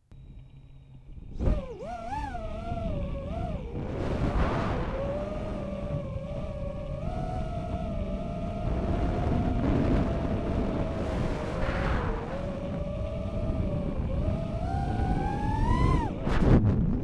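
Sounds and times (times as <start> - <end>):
drone motors whining: 0.0 - 17.0
low rumble of wind: 0.0 - 17.0.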